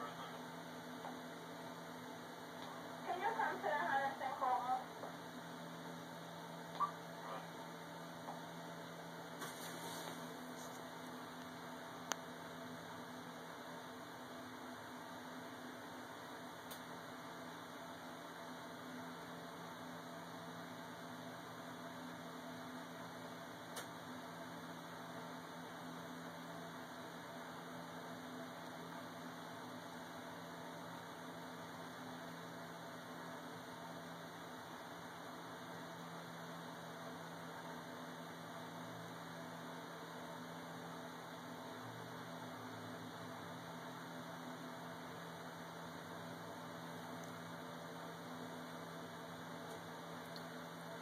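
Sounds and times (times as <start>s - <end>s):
low hum and hiss: 0.0s - 51.0s.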